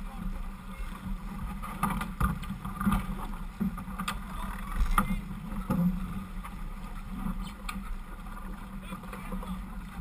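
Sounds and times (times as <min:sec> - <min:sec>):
water rushing along hull: 0:00.0 - 0:10.0.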